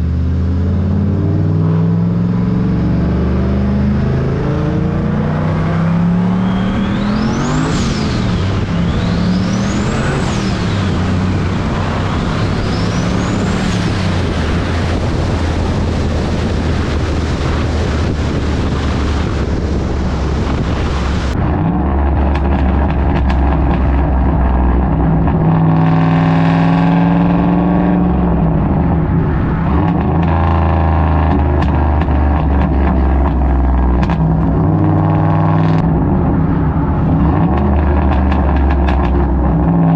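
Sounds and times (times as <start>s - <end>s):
car engine revving: 0.0s - 39.9s
high turbo whine: 0.0s - 39.9s.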